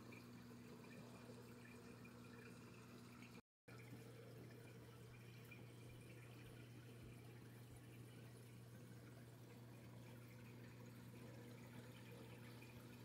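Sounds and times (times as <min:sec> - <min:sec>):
aquarium pump hum: 0:00.0 - 0:13.0
trickling water: 0:00.0 - 0:13.0.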